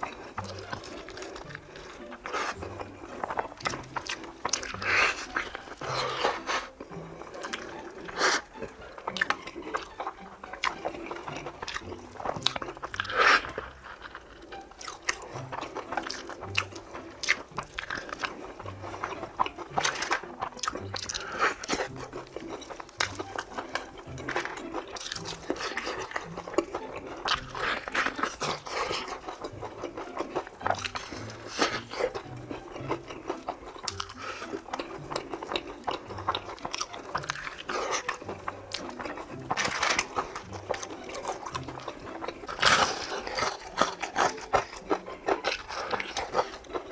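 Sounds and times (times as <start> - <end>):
crunching fried chicken: 0.0 - 46.9.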